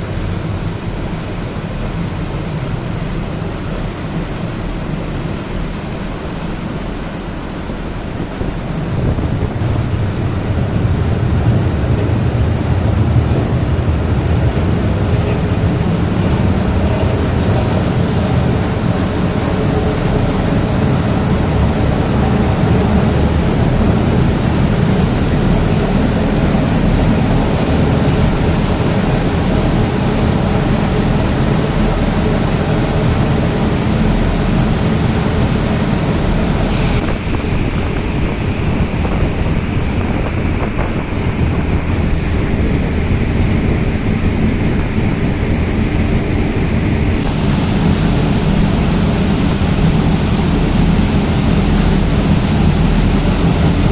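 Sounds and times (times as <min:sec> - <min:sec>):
ferry engine rumble: 0:00.0 - 0:53.9
rushing water: 0:00.0 - 0:53.9
wind buffeting microphone: 0:00.0 - 0:53.9.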